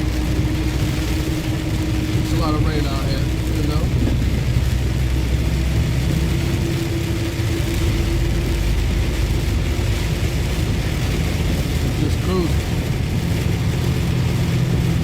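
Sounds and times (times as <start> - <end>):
heavy rain and tyre spray: 0.0 - 15.0
road rumble: 0.0 - 15.0
truck diesel engine droning: 0.0 - 15.0.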